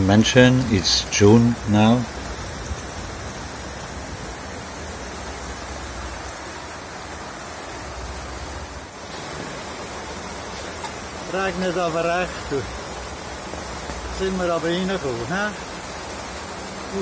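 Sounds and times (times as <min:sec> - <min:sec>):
heavy rain on sea and boat: 0:00.0 - 0:17.0.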